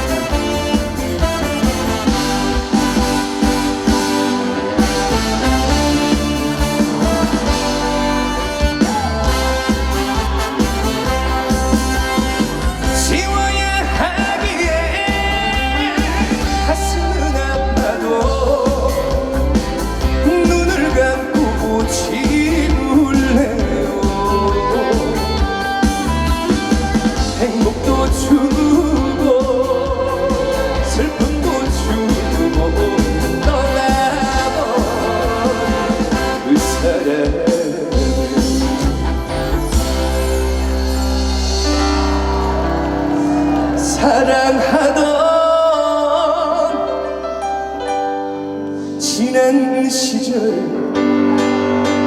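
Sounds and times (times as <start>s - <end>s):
man singing: 0.0s - 39.6s, 43.6s - 48.1s, 48.8s - 52.0s
band backing track: 0.0s - 52.0s.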